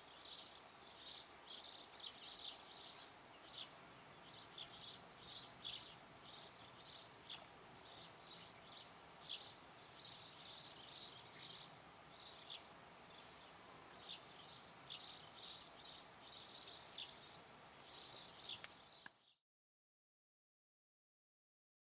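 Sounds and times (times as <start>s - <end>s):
low steady outdoor hiss: 0.0s - 19.4s
small birds chirping: 0.0s - 19.4s.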